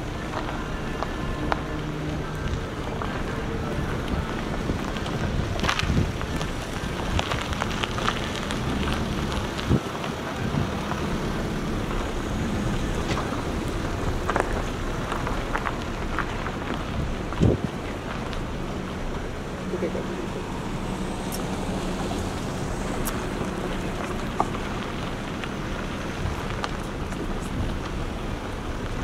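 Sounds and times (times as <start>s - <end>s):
traffic: 0.0s - 29.0s
wind rumbling on microphone: 0.0s - 29.0s.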